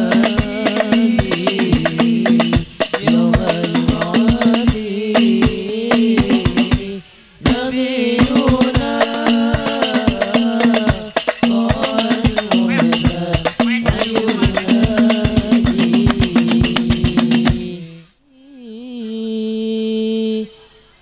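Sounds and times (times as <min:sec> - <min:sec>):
frame drums beating fast rhythm: 0:00.0 - 0:17.8
man singing: 0:00.0 - 0:19.4.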